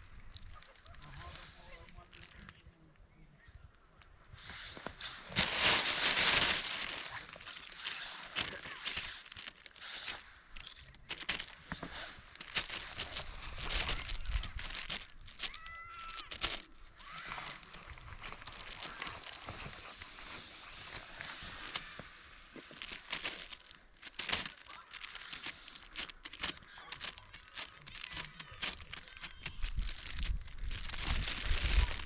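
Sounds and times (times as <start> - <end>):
rustling and crinkling handling noise: 0.0 - 32.0.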